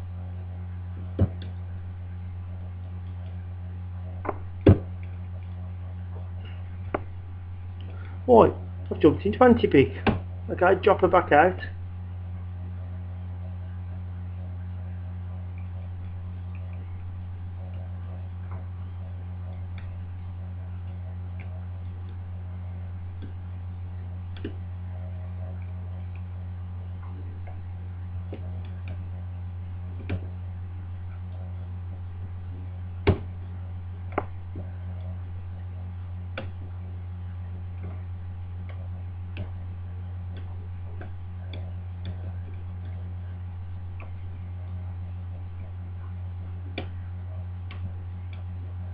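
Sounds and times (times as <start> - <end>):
low electrical hum: 0.0 - 48.9.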